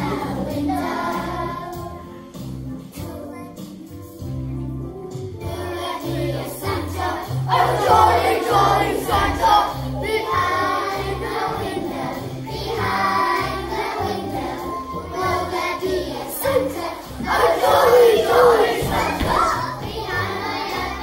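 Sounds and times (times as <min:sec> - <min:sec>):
children singing: 0:00.0 - 0:02.3, 0:05.4 - 0:21.0
recorded musical accompaniment: 0:00.0 - 0:21.0.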